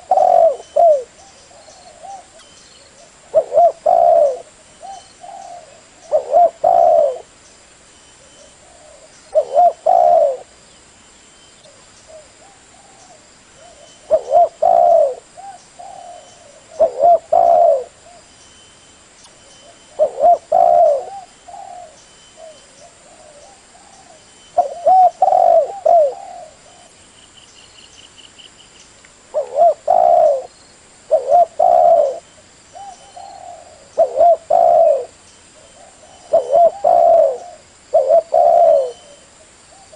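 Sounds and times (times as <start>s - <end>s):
dove cooing: 0.0s - 7.3s, 8.2s - 10.6s, 11.7s - 18.3s, 19.6s - 27.0s, 29.3s - 30.5s, 31.1s - 39.9s
small birds chirping: 0.0s - 39.9s.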